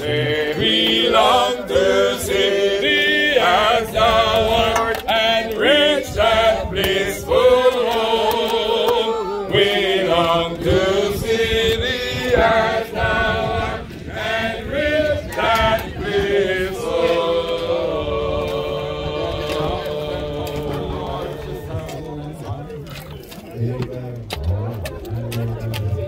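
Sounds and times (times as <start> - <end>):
voices singing a hymn: 0.0 - 22.6.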